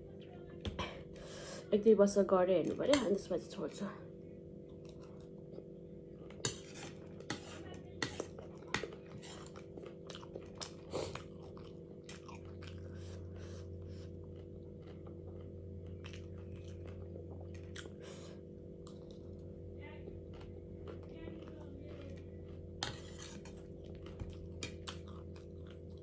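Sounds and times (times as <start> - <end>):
deep low hum: 0.0 - 26.0
steady appliance hum: 0.0 - 26.0.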